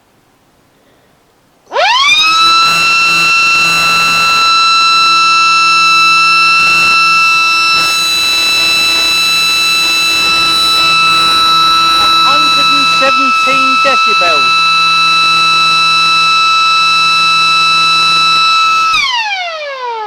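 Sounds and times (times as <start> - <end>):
mechanical siren wailing: 1.7 - 20.0.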